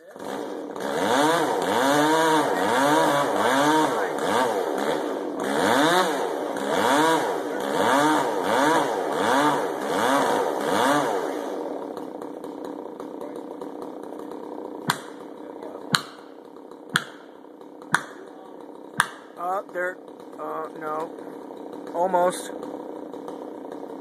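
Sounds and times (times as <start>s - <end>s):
chainsaw engine revving: 0.0s - 24.0s.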